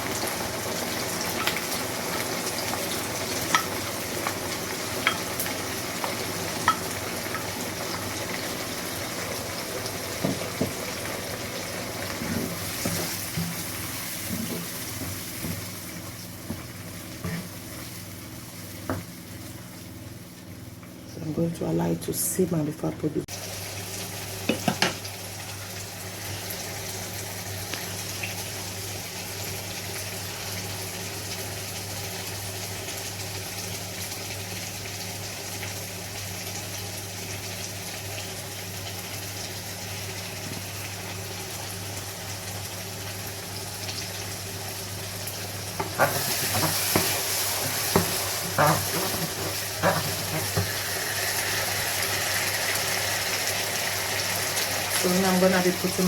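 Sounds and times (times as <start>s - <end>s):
stew simmering and sizzling: 0.0s - 21.1s, 23.2s - 56.0s.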